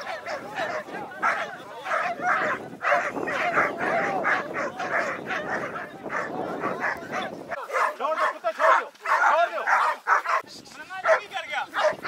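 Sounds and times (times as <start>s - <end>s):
dogs yelping whining and barking: 0.0s - 10.4s.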